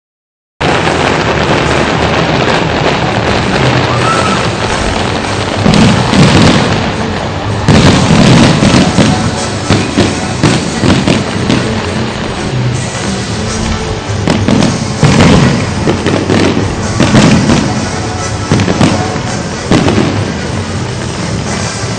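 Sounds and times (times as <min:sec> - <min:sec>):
fireworks bursts and booms: 0:00.6 - 0:21.9
fireworks crackling: 0:00.6 - 0:21.9
music playing: 0:00.6 - 0:21.9.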